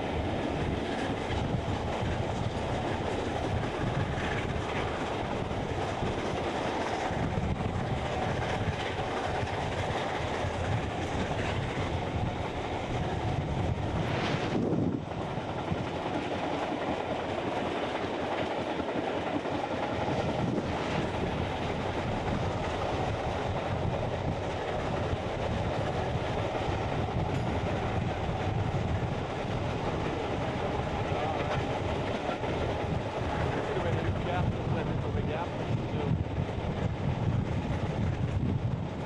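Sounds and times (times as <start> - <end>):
train wheels on rails: 0.0 - 39.0.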